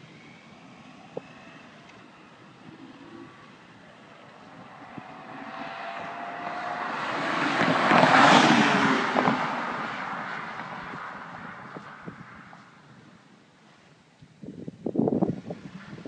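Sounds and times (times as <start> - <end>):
car driving past: 0.0 - 13.0.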